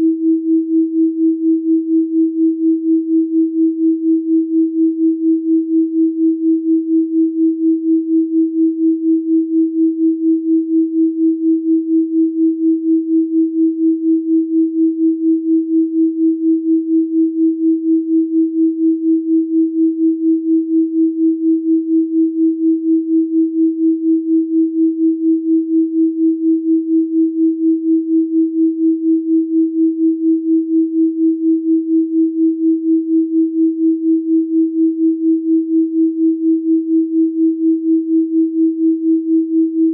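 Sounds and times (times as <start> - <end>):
pulsing pure sine tone: 0.0 - 39.9.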